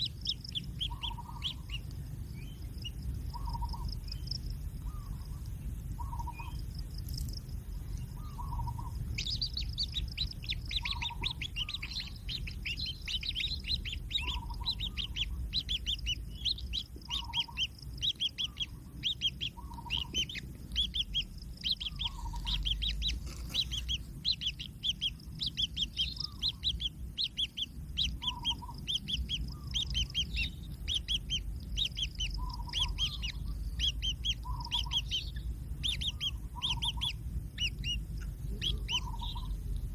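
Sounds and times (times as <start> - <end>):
chicks chirping rapidly: 0.0 - 39.9
low rumble: 0.0 - 39.9
lower bird call: 0.0 - 39.9.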